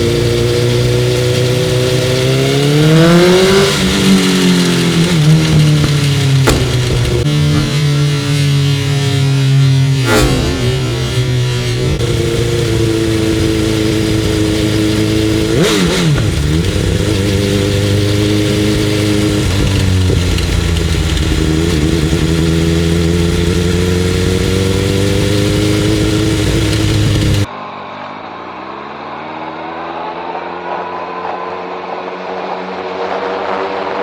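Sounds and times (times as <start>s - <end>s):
motorcycle engine running: 0.0s - 27.5s.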